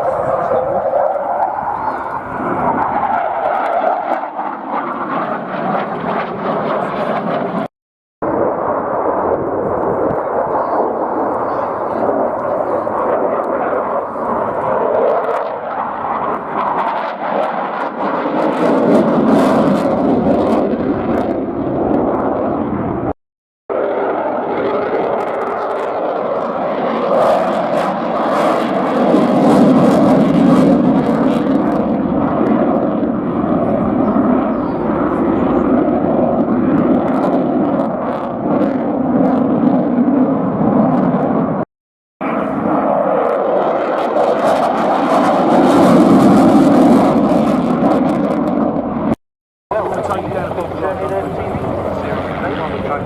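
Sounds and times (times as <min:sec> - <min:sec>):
aircraft engine flying past: 0:00.0 - 0:07.7, 0:08.3 - 0:23.1, 0:23.7 - 0:41.2, 0:42.2 - 0:48.9, 0:49.7 - 0:53.0.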